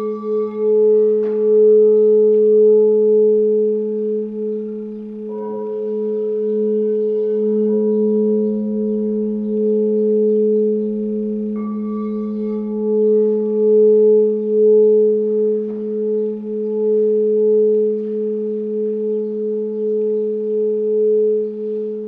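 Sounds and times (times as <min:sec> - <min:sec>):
crystal singing bowls: 0:00.0 - 0:22.0.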